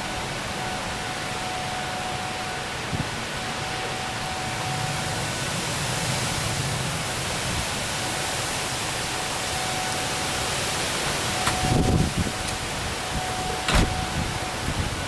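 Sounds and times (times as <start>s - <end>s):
distant tornado siren: 0.0s - 15.0s
rain and wind rushing: 0.0s - 15.0s.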